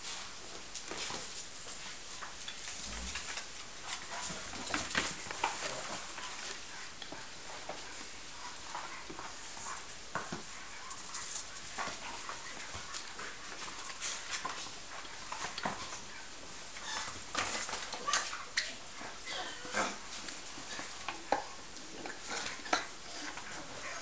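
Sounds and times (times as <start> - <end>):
puppy noises: 2.7 - 24.0.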